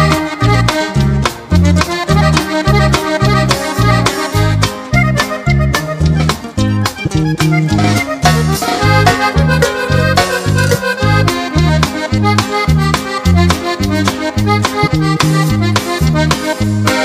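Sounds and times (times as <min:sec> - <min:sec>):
bass line: 0:00.0 - 0:17.0
button accordion melody: 0:00.0 - 0:17.0
drums: 0:00.0 - 0:17.0.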